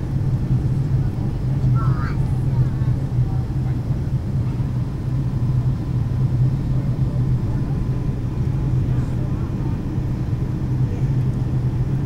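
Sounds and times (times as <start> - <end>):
airliner cabin engine rumble: 0.0 - 12.0
constant low hum: 0.0 - 12.0.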